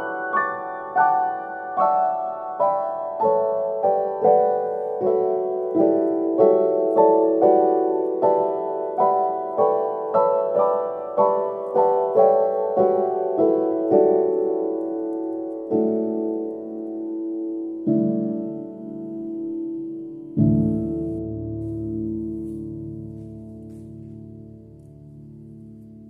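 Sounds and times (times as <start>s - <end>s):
slow solo piano melody: 0.0s - 26.0s.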